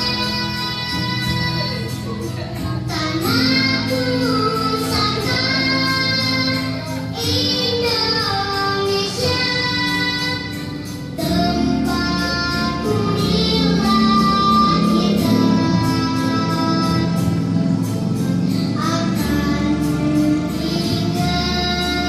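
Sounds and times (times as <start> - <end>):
children's song with high voice: 0.0 - 22.0
instrumental backing: 0.0 - 22.0.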